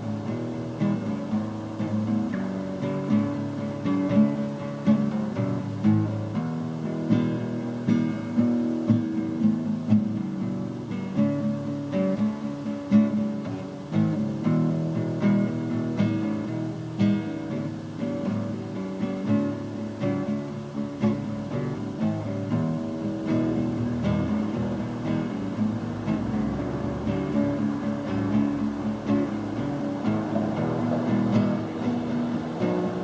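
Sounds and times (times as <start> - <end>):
acoustic guitar strumming blues: 0.0 - 33.0.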